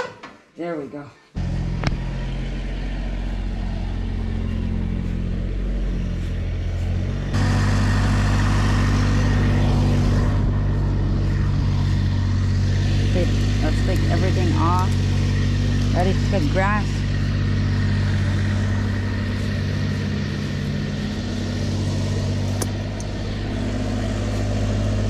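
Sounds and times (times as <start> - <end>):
tractor engine running: 1.4 - 25.0.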